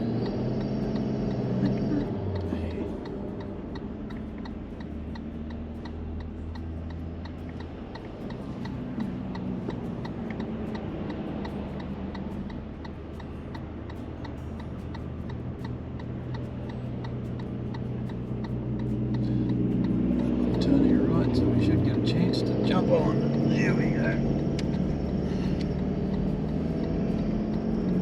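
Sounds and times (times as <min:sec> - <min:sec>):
engine and road drone: 0:00.0 - 0:28.0
turn signal ticking: 0:00.0 - 0:28.0.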